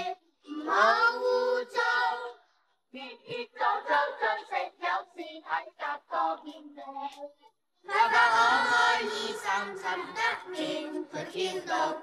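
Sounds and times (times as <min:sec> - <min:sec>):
children singing: 0:00.0 - 0:02.4, 0:03.0 - 0:07.0, 0:07.9 - 0:12.0.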